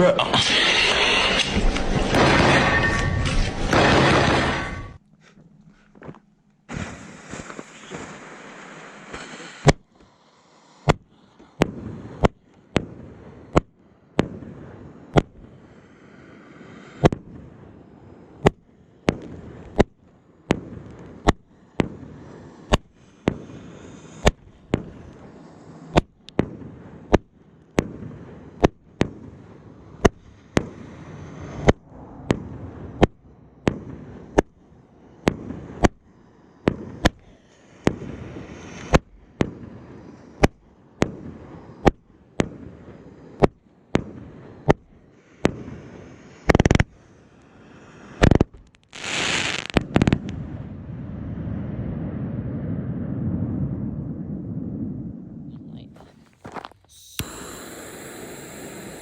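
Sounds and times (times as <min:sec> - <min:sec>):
firework bangs with short rumble: 0:00.5 - 0:05.0, 0:06.7 - 0:09.9, 0:10.8 - 0:15.6, 0:18.4 - 0:47.0, 0:48.1 - 0:55.4.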